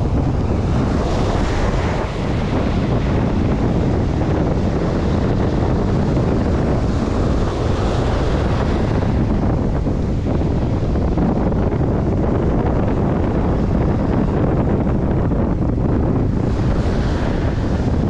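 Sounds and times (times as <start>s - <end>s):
breaking surf: 0.0s - 18.0s
wind buffeting microphone: 0.0s - 18.0s.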